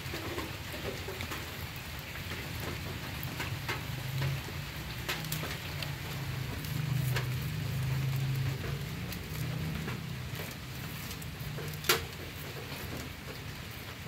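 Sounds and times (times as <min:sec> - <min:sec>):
close raindrop hits: 0:00.0 - 0:14.0
steady rain falling: 0:00.0 - 0:14.0.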